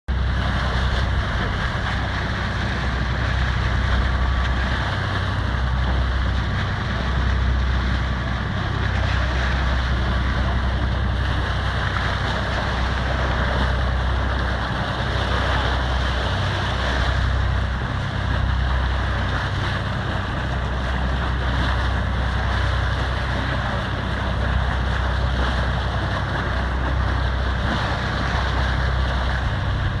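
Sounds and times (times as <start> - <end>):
boat engine low rumble: 0.1 - 30.0
water wash: 0.1 - 30.0.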